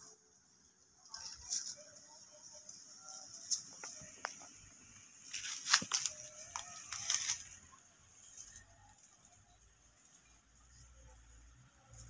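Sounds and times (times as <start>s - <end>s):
leaves and twigs rustling: 1.0s - 12.0s.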